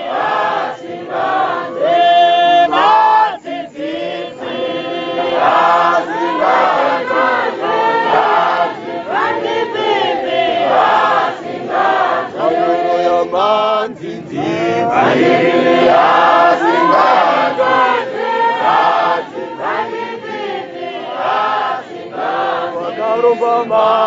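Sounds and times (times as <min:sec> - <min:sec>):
congregation singing a hymn: 0:00.0 - 0:24.0.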